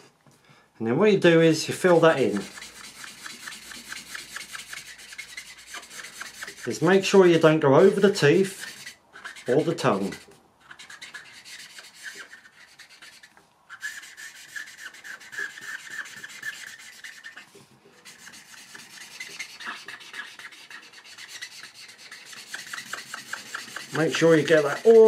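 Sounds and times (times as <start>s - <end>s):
marker scribbling on paper: 1.6s - 25.0s.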